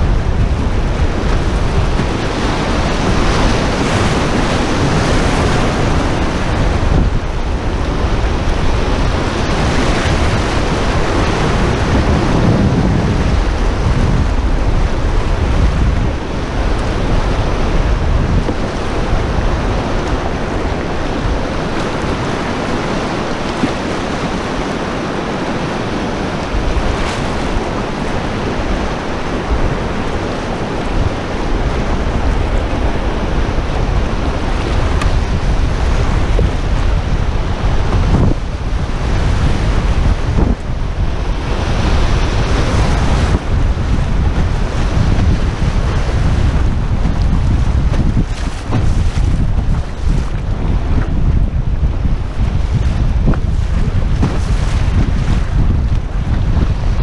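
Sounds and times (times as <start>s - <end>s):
whitewater rushing and splashing: 0.0s - 57.0s.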